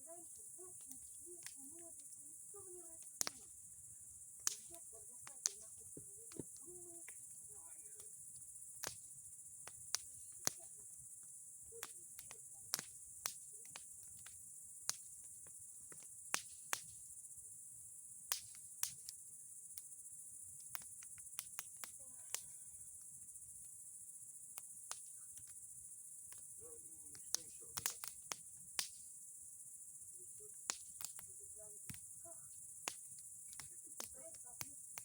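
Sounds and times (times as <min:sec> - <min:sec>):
crickets chirring: 0:00.0 - 0:35.0
bonfire crackling and popping: 0:00.2 - 0:35.0.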